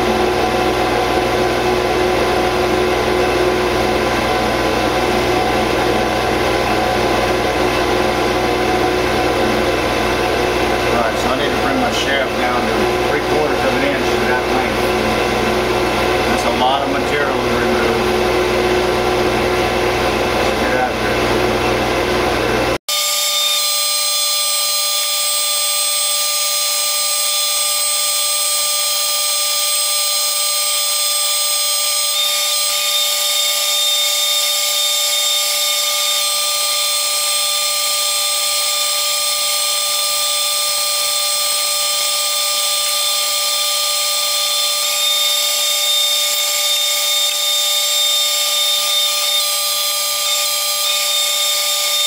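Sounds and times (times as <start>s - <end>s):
metal lathe machining whine: 0.0s - 52.0s.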